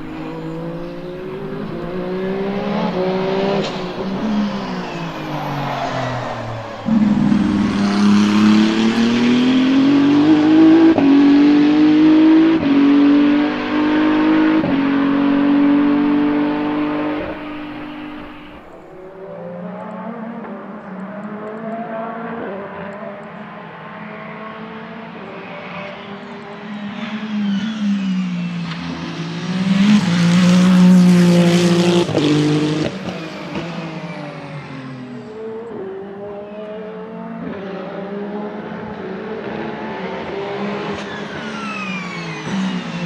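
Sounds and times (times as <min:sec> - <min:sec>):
race car engine accelerating: 0:00.0 - 0:23.1, 0:23.9 - 0:43.0.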